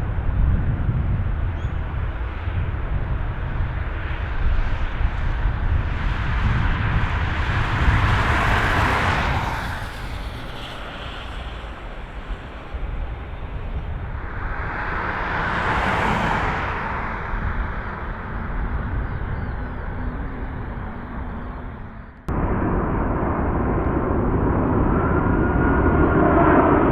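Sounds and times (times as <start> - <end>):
airliner jet engine: 0.0 - 26.9
steady low rumble: 0.0 - 26.9.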